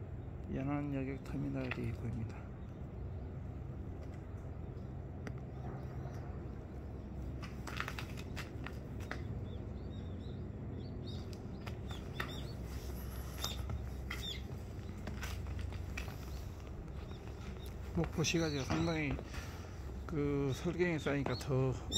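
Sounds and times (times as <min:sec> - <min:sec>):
small birds chirping: 0:00.0 - 0:21.9
steady low rumble: 0:00.0 - 0:21.9.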